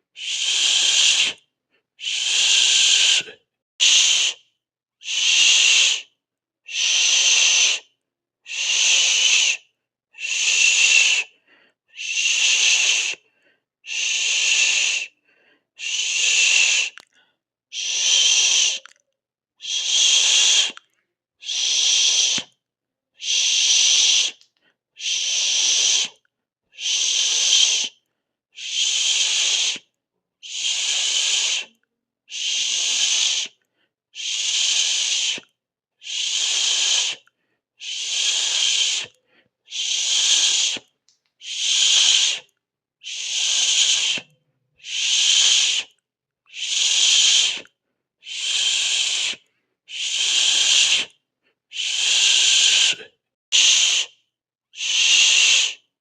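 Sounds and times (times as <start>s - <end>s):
person hissing with the mouth: 0.1s - 19.0s, 19.6s - 22.6s, 23.2s - 54.2s, 54.8s - 55.9s.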